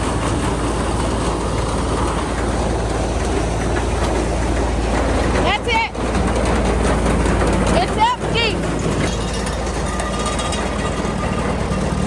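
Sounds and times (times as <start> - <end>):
grain dryer machinery rumble: 0.0 - 12.0.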